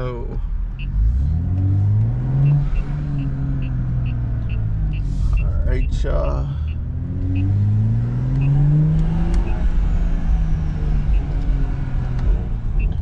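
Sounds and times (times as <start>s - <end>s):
car exhaust accelerating: 0.0s - 13.0s
wind and road rumble: 0.0s - 13.0s.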